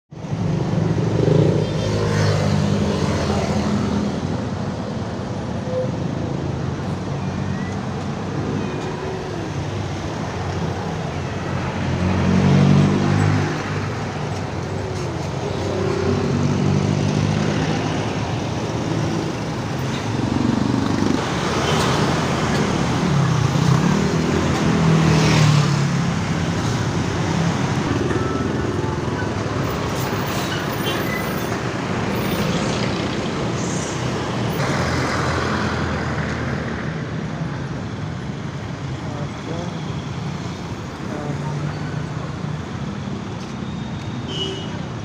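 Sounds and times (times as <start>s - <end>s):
passing vehicle engines: 0.1s - 45.0s
road traffic noise: 0.1s - 45.0s.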